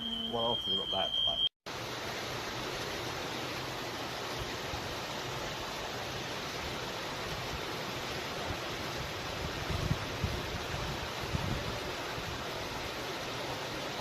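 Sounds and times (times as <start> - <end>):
water rushing: 1.7 - 14.0.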